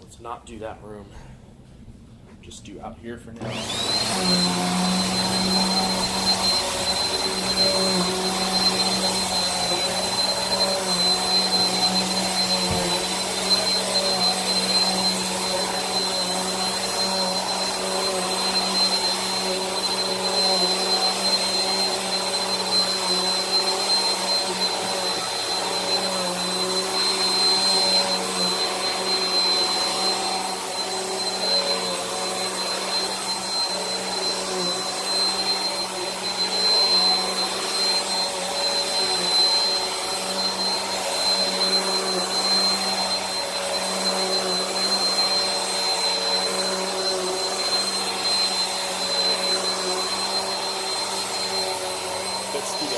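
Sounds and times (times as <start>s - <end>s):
vacuum cleaner running: 3.4s - 52.9s.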